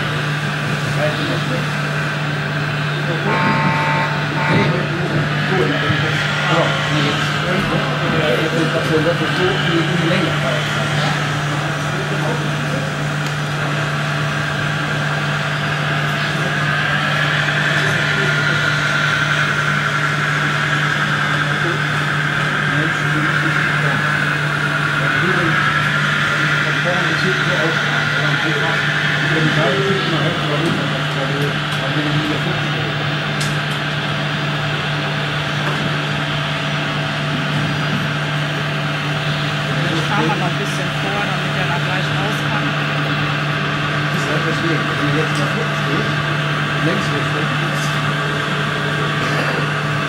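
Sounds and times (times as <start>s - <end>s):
motor whine: 0.0s - 50.0s
steady low hum: 0.0s - 50.0s.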